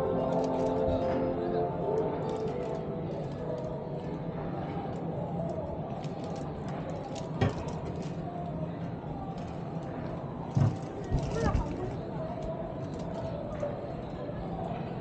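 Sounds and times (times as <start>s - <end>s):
indistinct crowd chatter: 0.0s - 15.0s.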